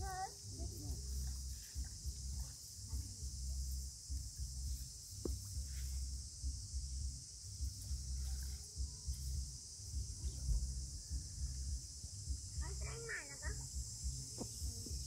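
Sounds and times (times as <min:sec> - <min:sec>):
insect hiss: 0:00.0 - 0:15.0
wind rumble on microphone: 0:00.0 - 0:15.0.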